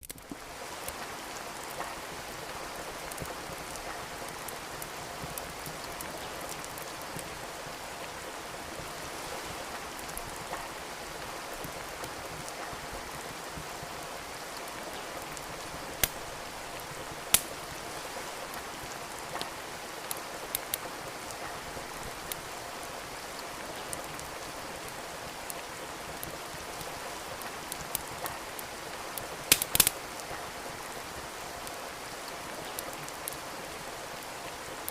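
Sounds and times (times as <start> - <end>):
steady rain: 0.0 - 34.9
wood fire crackling and popping: 0.0 - 34.9.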